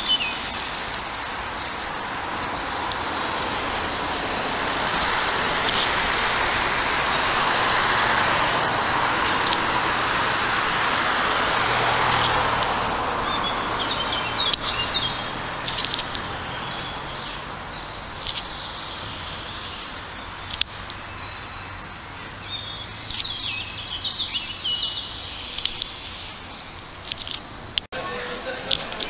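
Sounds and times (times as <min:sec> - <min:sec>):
small birds chirping: 0:00.0 - 0:29.0
street traffic noise: 0:00.0 - 0:29.0.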